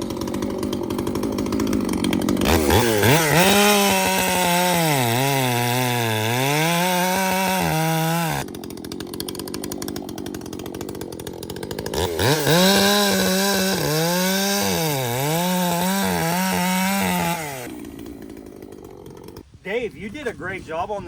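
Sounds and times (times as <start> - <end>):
chainsaw cutting wood: 0.0 - 20.3.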